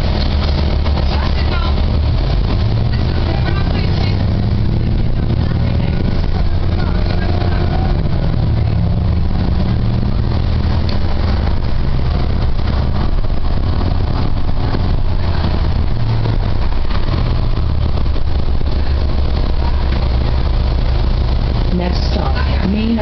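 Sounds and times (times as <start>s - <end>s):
bus engine droning: 0.0s - 23.0s.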